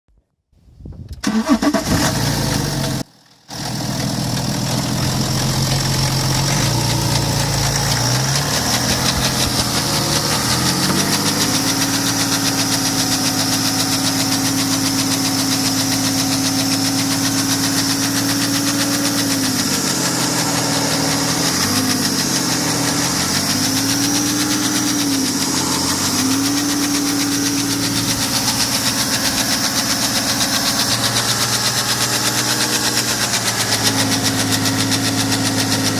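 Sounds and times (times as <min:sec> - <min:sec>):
diesel engine idling with knocking: 0:02.3 - 0:35.9.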